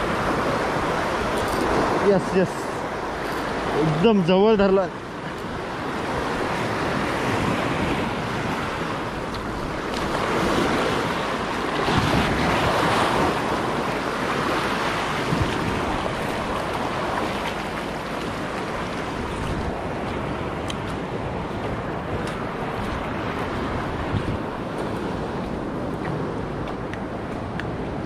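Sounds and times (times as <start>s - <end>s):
waves surging over rocks: 0.0s - 28.0s.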